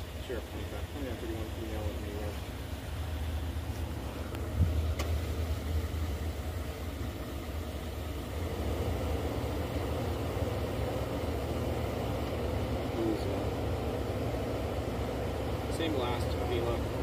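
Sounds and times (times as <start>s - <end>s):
engine idling low hum: 0.0s - 17.0s.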